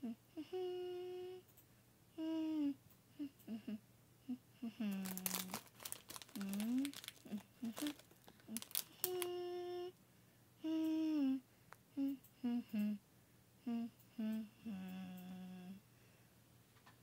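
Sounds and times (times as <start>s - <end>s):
person humming a tune: 0.0s - 1.5s, 2.2s - 10.0s, 10.6s - 13.0s, 13.6s - 15.8s.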